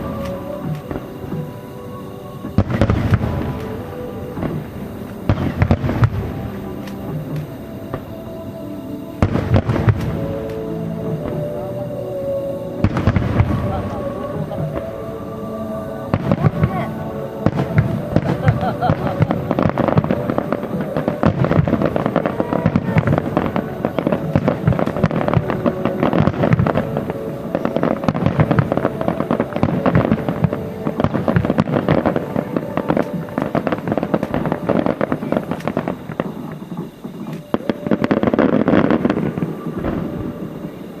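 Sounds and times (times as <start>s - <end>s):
fireworks bursting and crackling: 0.0s - 41.0s
music playing: 0.0s - 41.0s.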